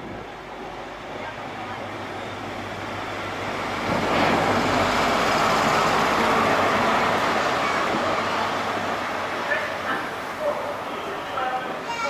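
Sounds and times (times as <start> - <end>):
train wheels and engine: 0.0 - 12.0.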